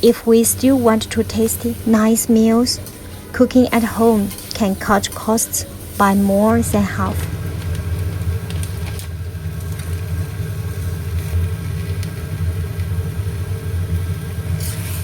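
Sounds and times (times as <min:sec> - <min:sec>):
extractor fan motor hum: 0:00.0 - 0:15.0.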